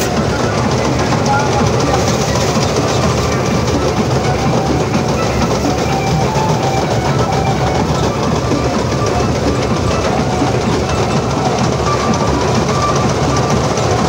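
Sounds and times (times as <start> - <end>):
combine harvester running: 0.0 - 14.0
fast mechanical rattle: 0.0 - 14.0.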